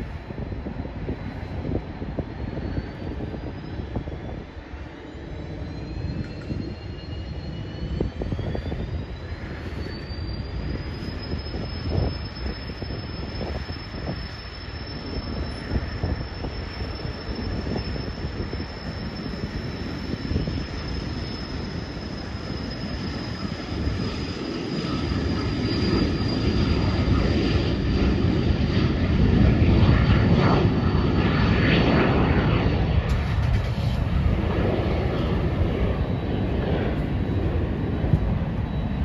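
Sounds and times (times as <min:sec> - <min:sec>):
jet engines whining at takeoff: 0:00.0 - 0:39.0.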